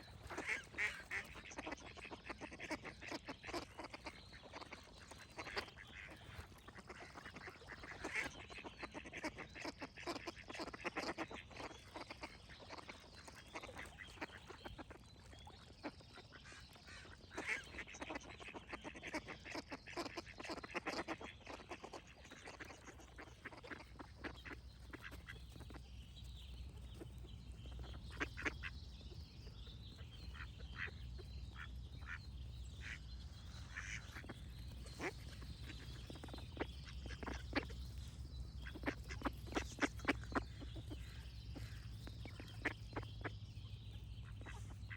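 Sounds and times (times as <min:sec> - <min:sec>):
ducks quacking: 0:00.0 - 0:44.9.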